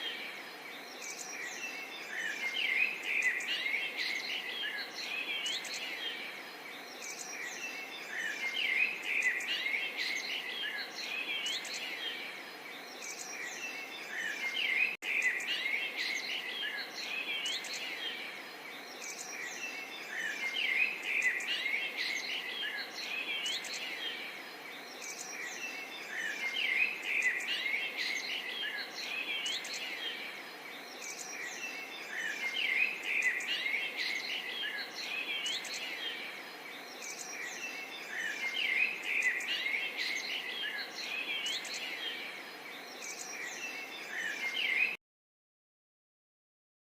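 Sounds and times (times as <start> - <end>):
songbirds chirping and trilling: 0.0 - 45.0.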